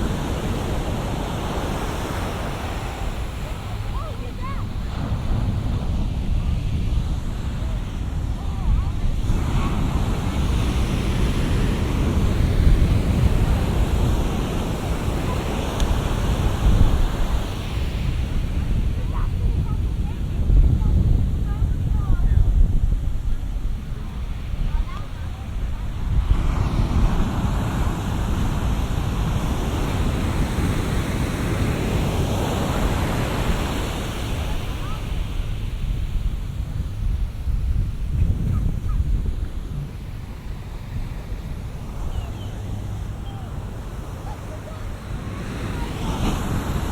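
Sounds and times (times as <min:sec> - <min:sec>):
surf waves breaking: 0:00.0 - 0:46.9
wind buffeting microphone: 0:00.0 - 0:46.9.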